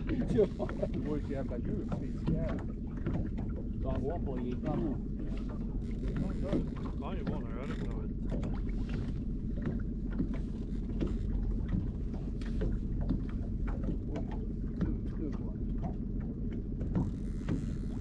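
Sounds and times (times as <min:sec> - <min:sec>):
boat motor humming: 0:00.0 - 0:18.0
clicks and knocks of fish handling: 0:00.0 - 0:18.0.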